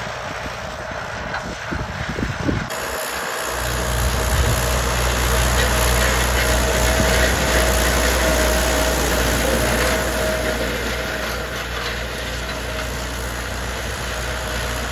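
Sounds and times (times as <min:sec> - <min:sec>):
tractor diesel engine running: 0:00.0 - 0:14.9
high whine: 0:02.2 - 0:14.9.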